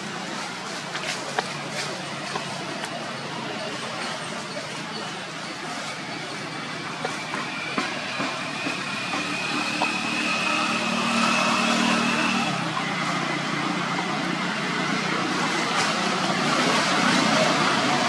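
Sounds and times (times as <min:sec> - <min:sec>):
steady background noise: 0:00.0 - 0:18.0
vehicle engine running: 0:00.0 - 0:18.0.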